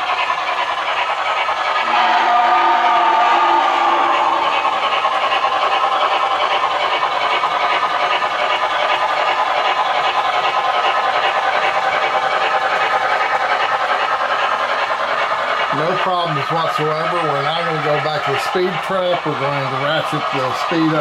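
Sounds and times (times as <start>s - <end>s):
model steam locomotive chuffing: 0.0s - 21.0s
model train wheels on rails: 0.0s - 21.0s.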